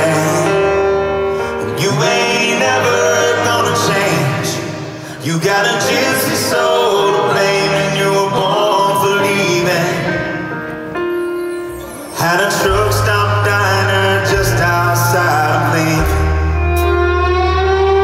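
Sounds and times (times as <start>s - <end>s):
man singing through pa: 0.0s - 10.4s, 12.2s - 17.0s
live country band playing: 0.0s - 18.0s.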